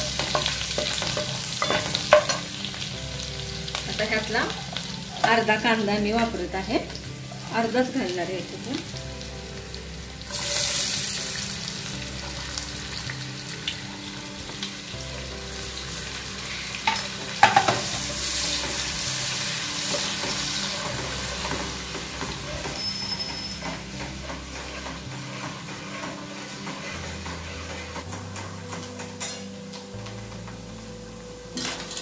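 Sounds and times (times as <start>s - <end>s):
onion sizzling in oil: 0.0s - 32.0s.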